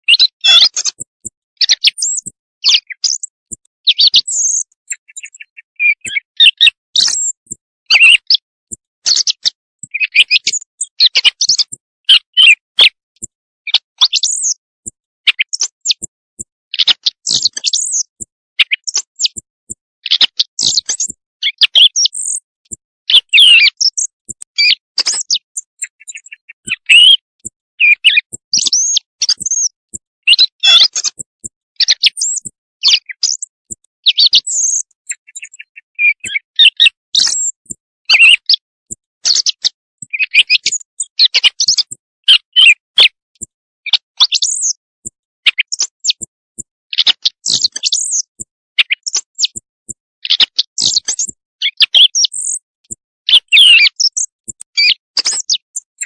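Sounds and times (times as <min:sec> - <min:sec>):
quail chirps and trills: 0:00.1 - 0:16.1, 0:16.7 - 0:46.3, 0:46.9 - 0:56.0.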